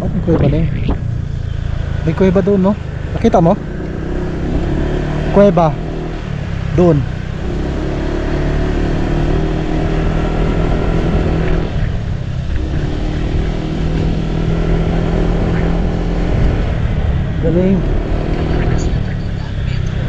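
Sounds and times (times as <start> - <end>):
low road rumble: 0.0 - 20.0
vehicle engine running: 0.0 - 20.0.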